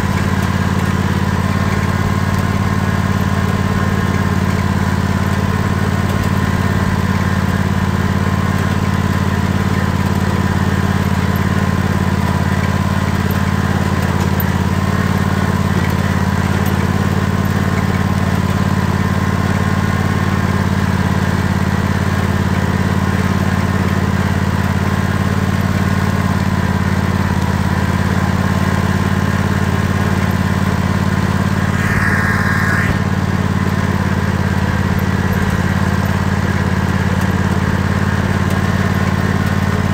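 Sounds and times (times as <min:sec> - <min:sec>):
tractor engine droning: 0:00.0 - 0:22.1, 0:24.8 - 0:39.9.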